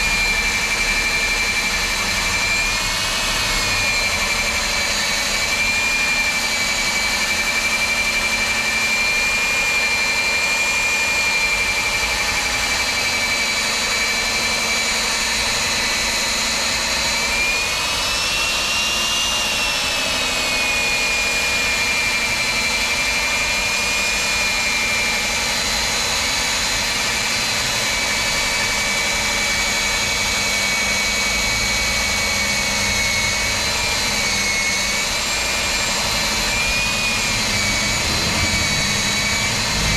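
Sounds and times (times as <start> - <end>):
core drill whining through concrete: 0.0 - 39.9.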